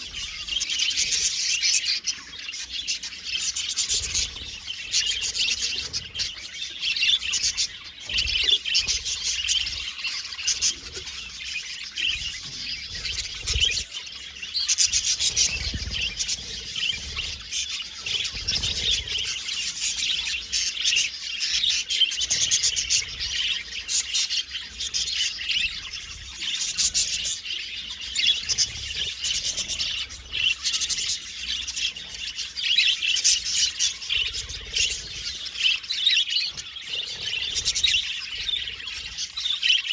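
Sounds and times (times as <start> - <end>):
budgies chirping and warbling: 0.0 - 39.9.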